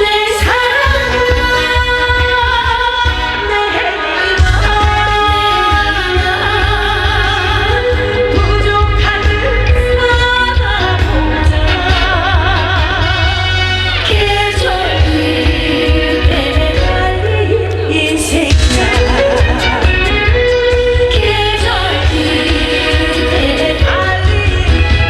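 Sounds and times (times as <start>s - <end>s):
woman singing with vibrato: 0.0s - 25.0s
backing track with bass beat: 4.4s - 25.0s.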